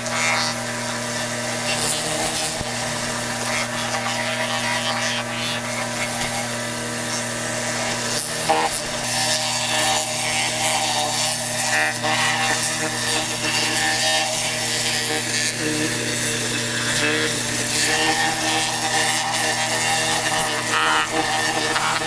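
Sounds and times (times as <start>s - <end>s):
pressure washer humming: 0.0s - 22.0s.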